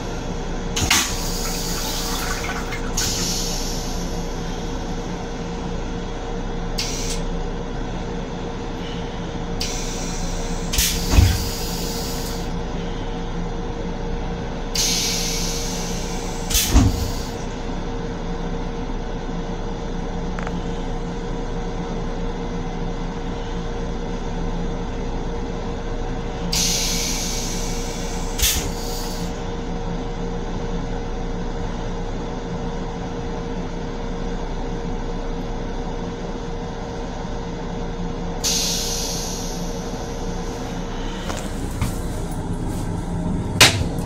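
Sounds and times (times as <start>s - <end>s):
railcar drone and hum: 0.0s - 44.0s.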